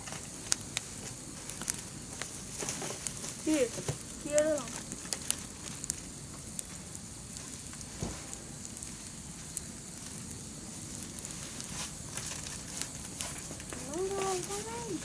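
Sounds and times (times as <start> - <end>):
campfire hissing: 0.0 - 15.0
wood crackling and popping: 0.0 - 15.0.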